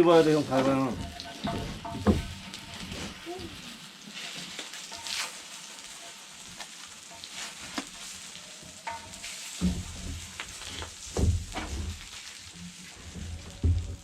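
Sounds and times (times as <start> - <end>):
batter sizzling in oil: 0.0 - 14.0.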